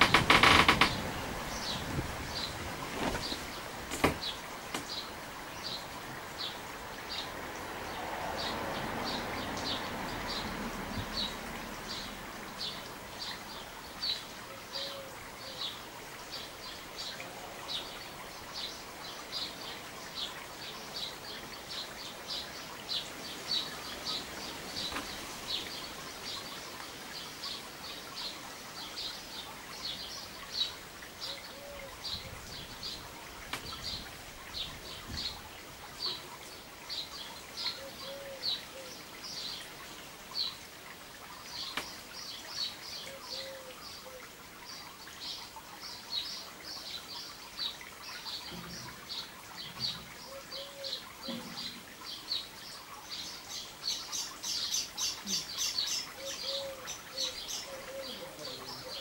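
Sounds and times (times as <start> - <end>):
soft rush of background noise: 0.0 - 59.0.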